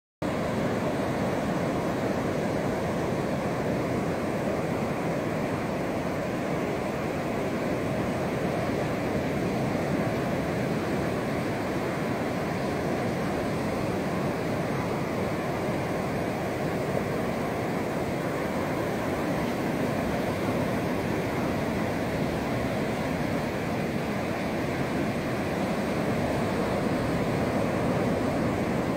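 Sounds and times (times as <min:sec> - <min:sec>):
waves washing up a sandy beach: 0:00.2 - 0:28.9.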